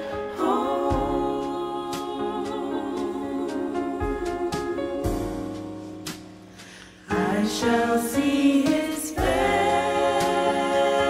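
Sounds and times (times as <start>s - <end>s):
gospel choir singing: 0.0s - 5.6s, 7.1s - 11.0s.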